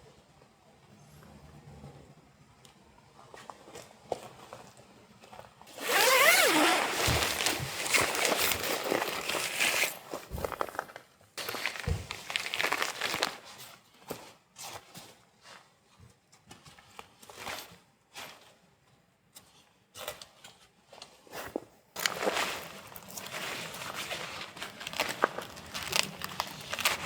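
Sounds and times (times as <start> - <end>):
rustling and handling noises: 3.1 - 27.0.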